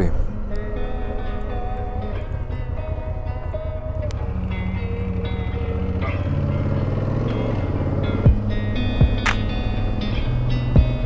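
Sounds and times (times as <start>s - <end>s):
background music: 0.0s - 11.0s
motorcycle engine rumble: 0.0s - 11.0s.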